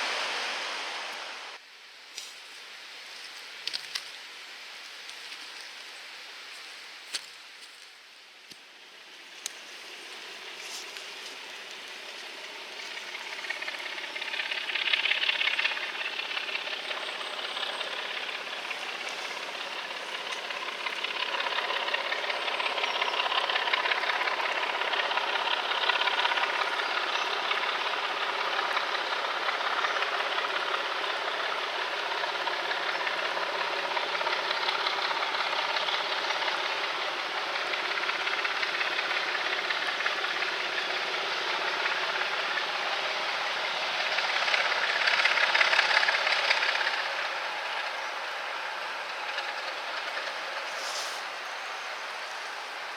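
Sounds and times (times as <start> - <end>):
steam locomotive working: 0.0 - 1.6, 8.7 - 52.9.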